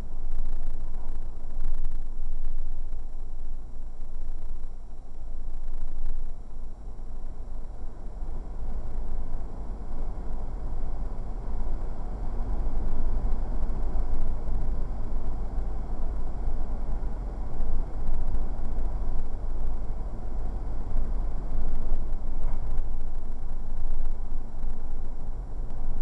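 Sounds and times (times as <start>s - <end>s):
car engine low rumble: 0.0s - 26.0s.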